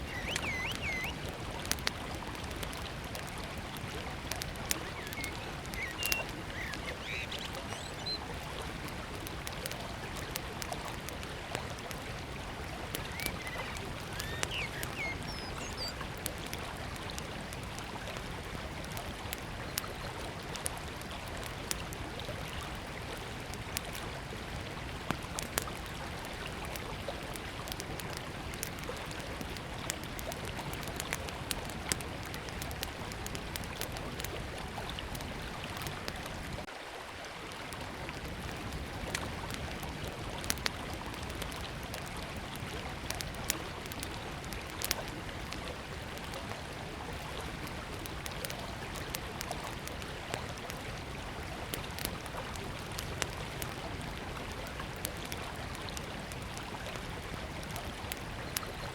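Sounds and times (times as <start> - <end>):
campfire crackling and popping: 0.0 - 36.7, 37.4 - 58.9
river flowing: 0.0 - 58.9.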